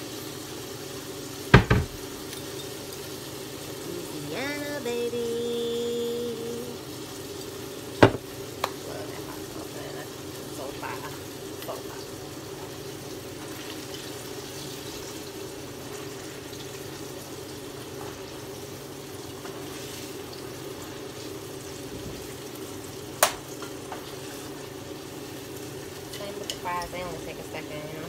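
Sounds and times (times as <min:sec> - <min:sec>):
fries sizzling in hot oil: 0:00.0 - 0:28.0.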